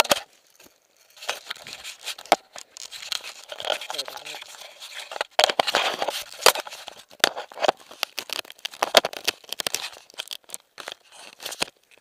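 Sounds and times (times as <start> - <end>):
rustling and crackling: 0.0 - 12.0.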